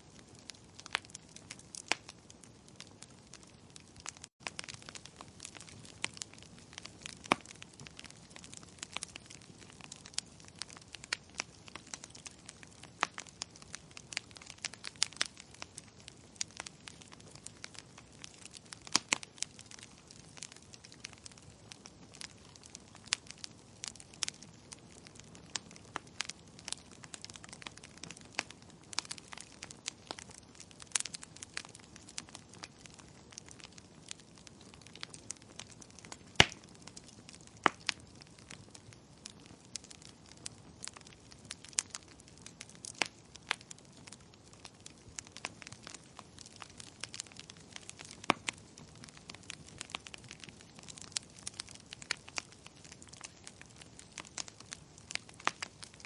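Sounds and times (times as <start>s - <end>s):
firewood crackling and popping: 0.0s - 56.0s
soft steady hiss: 0.0s - 56.0s.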